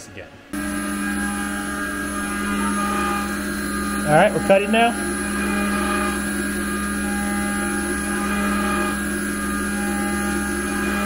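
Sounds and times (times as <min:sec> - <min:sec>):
high machine whine: 0:00.5 - 0:11.0
milling machine hum: 0:00.6 - 0:11.0.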